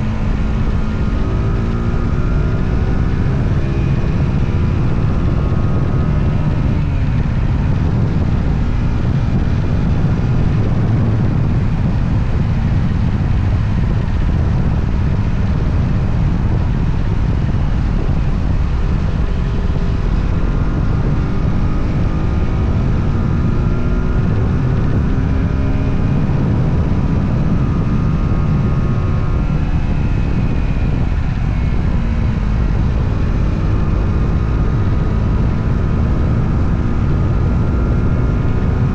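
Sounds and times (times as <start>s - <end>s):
low rumble of riding noise: 0.0s - 38.9s
motorcycle engine running: 0.0s - 38.9s.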